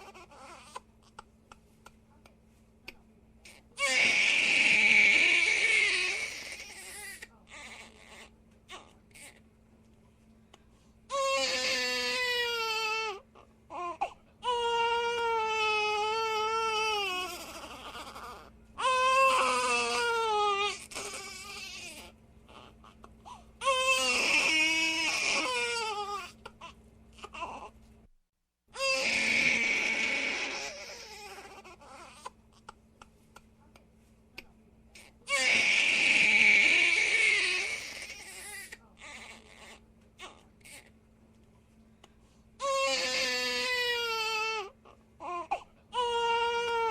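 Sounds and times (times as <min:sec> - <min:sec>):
baby crying: 0:00.0 - 0:01.2, 0:03.5 - 0:09.4, 0:11.1 - 0:27.7, 0:28.8 - 0:32.8, 0:35.0 - 0:40.9, 0:42.6 - 0:46.9.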